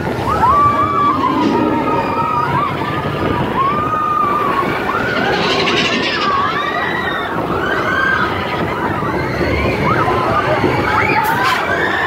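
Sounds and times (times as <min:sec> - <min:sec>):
high squeals: 0:00.0 - 0:12.0
roller coaster rumble and rattle: 0:00.0 - 0:12.0.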